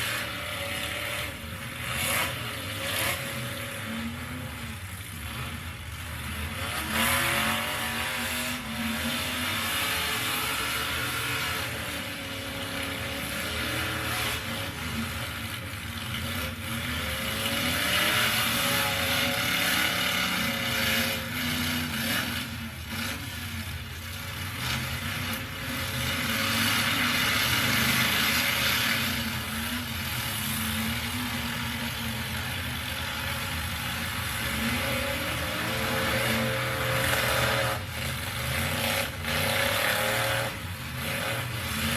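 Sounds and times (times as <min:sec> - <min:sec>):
truck engines revving: 0:00.0 - 0:41.9.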